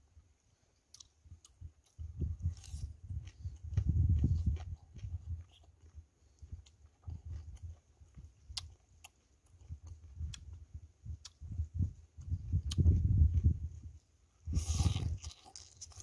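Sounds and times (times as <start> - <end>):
wet chewing mouth noises: 0.9 - 16.0.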